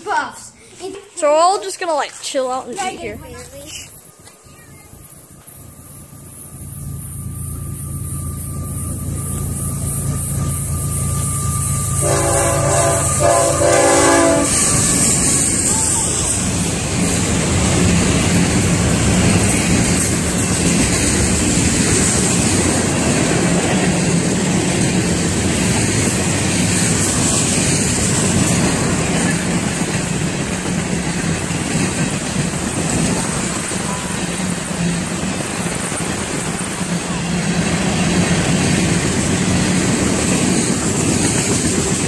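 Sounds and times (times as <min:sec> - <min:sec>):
freight train passing: 0:01.2 - 0:42.0
steel wheels on rail: 0:01.8 - 0:42.0.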